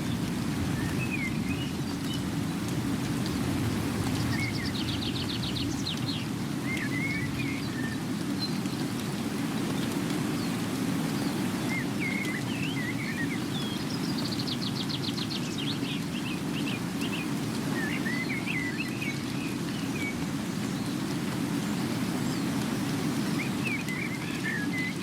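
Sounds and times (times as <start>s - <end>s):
small birds chirping: 0.0s - 25.0s
steady rain: 0.0s - 25.0s.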